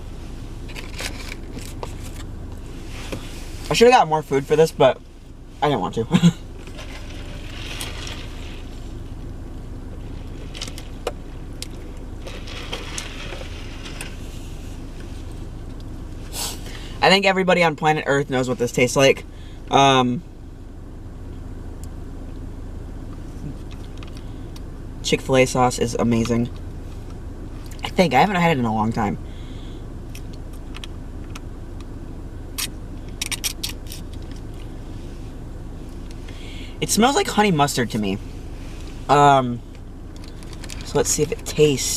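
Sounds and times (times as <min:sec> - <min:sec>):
car engine idling: 0:00.0 - 0:41.9
car heater running: 0:00.0 - 0:41.9.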